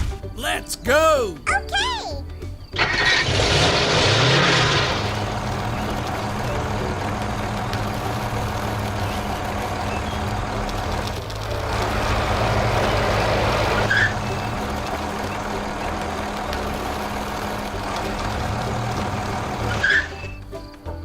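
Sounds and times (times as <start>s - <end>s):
low engine hum: 2.8s - 20.6s.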